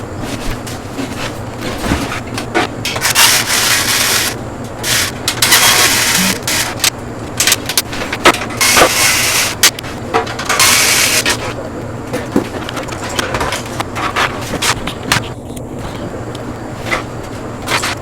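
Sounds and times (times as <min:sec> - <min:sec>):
rubbing and scraping of parts: 0:00.0 - 0:18.0.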